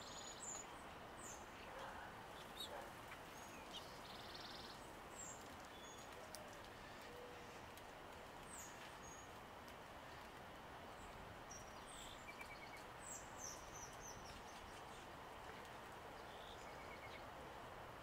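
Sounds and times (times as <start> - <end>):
songbird chirps and trills: 0.0 - 17.6
outdoor background hiss: 0.0 - 18.0.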